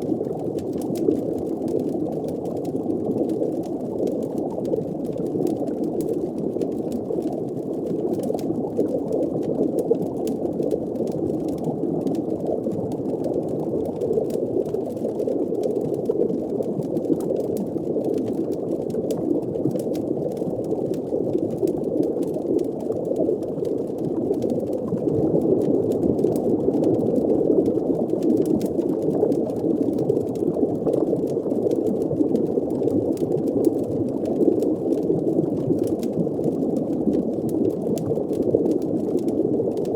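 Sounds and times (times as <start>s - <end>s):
faint fire crackling: 0.0s - 39.9s
muffled bubbling water: 0.0s - 39.9s.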